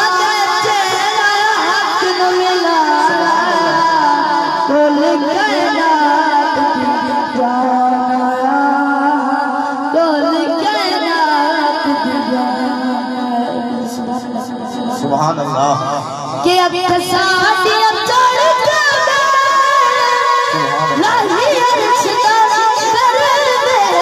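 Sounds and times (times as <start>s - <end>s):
boy singing into microphone: 0.0s - 24.0s.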